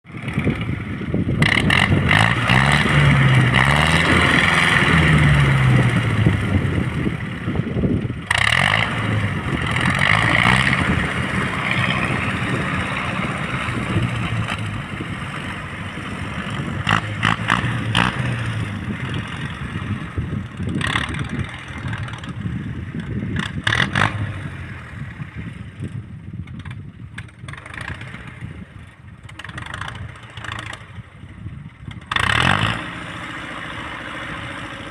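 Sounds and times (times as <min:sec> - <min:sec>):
tractor engine under load: 0:00.0 - 0:34.9.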